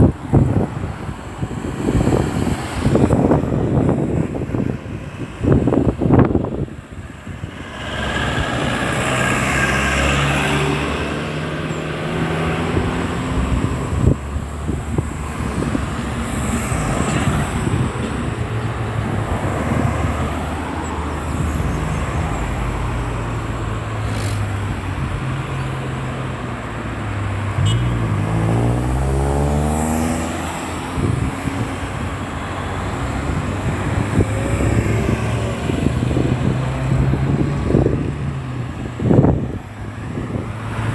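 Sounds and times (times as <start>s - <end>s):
vehicles passing: 0.0s - 40.9s.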